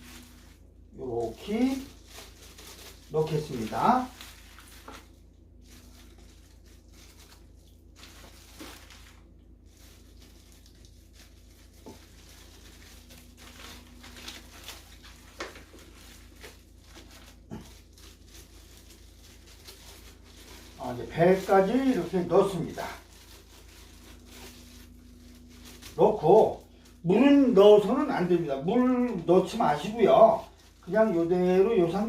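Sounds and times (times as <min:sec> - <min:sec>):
faint rustling: 0:00.0 - 0:27.9.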